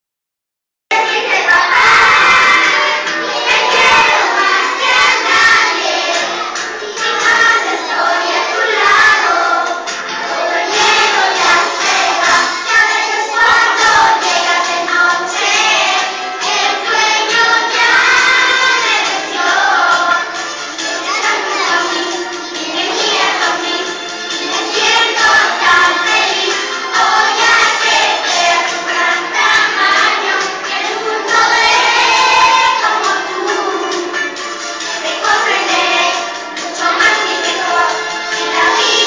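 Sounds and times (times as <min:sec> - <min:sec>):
children singing together: 0:00.9 - 0:39.0.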